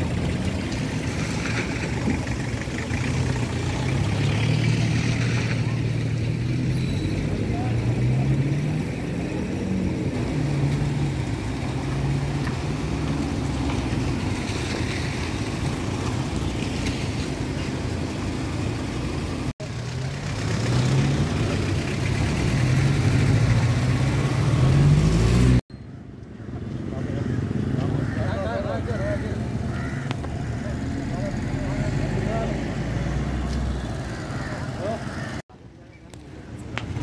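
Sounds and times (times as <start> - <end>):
road noise: 0.0 - 37.0
vehicle engines driving by: 0.0 - 37.0.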